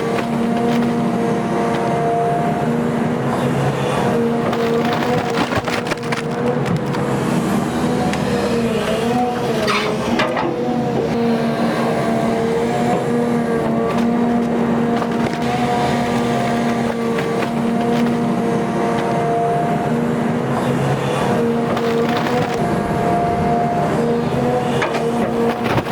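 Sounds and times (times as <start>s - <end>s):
excavator engine droning: 0.0s - 25.9s.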